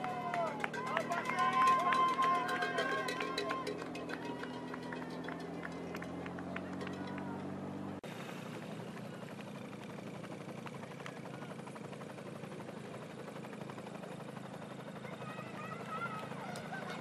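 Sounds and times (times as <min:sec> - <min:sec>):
vehicle engines droning: 0:00.0 - 0:17.0.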